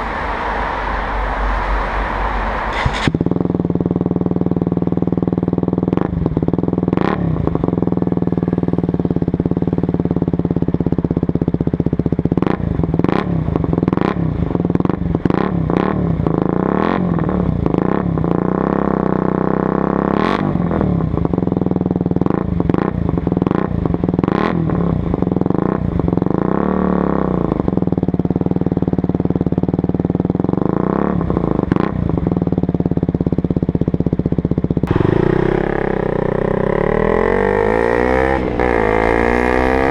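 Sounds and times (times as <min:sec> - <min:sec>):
motorcycle engine running: 0:02.7 - 0:39.9.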